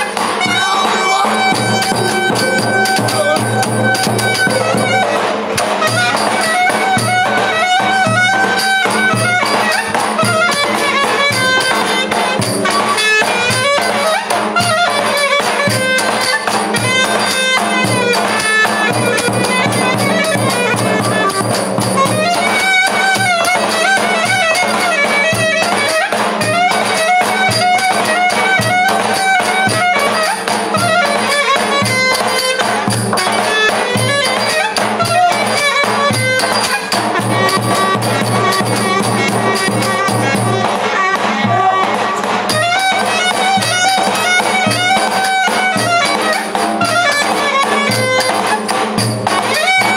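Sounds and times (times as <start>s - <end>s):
large drum beats: 0.0s - 15.0s, 15.6s - 49.9s
reed wind instrument melody: 0.0s - 49.9s.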